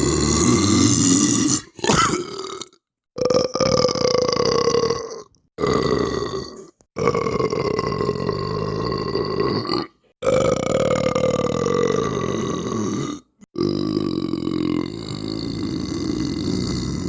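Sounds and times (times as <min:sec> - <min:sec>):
long belches: 0:00.0 - 0:17.0.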